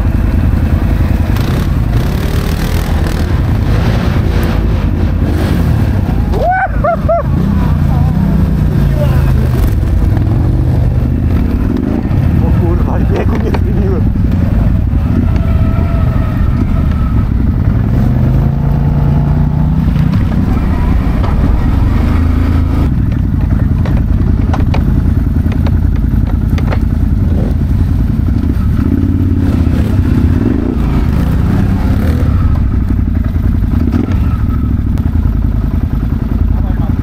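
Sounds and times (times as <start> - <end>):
quad bike engine revving: 0.0 - 37.0.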